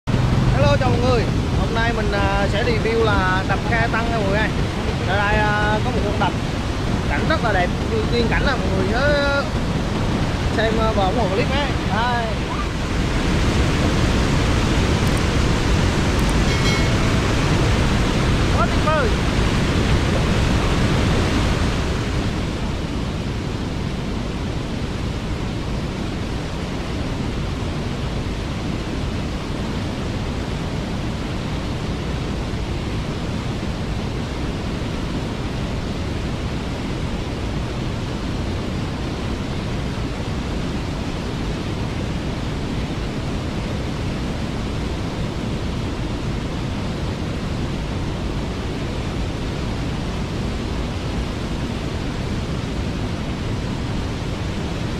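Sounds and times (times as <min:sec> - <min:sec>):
waterfall rushing: 0:00.1 - 0:54.9.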